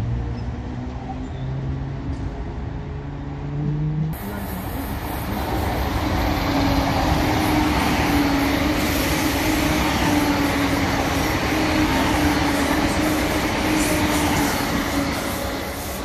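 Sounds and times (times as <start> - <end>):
diesel train engine drone: 0.0 - 16.0
wheels rumbling on rails: 0.0 - 16.0.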